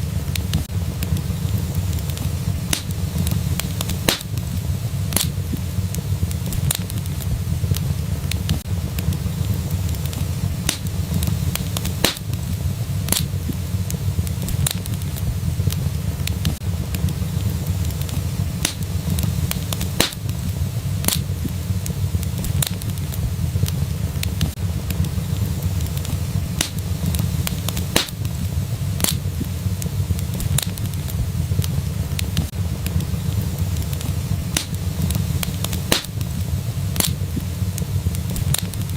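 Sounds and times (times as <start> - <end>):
loud fire pops: 0.0 - 38.9
wood fire crackling: 0.0 - 38.9.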